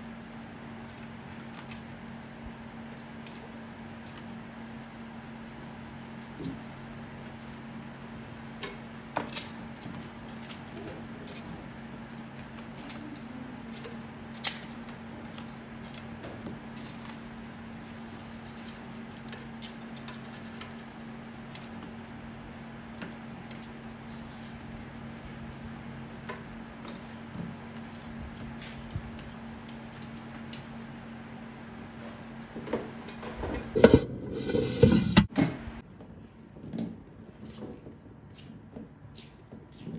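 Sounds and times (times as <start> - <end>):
steady low hum: 0.0 - 39.8.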